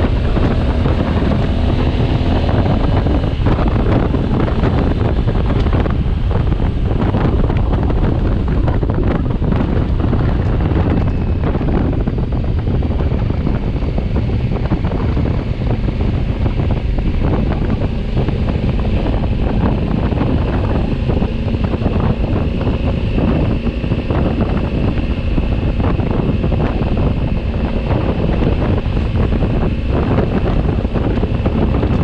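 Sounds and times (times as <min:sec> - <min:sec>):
motorcycle engine running: 0:00.0 - 0:32.0
wind buffeting microphone: 0:00.0 - 0:32.0.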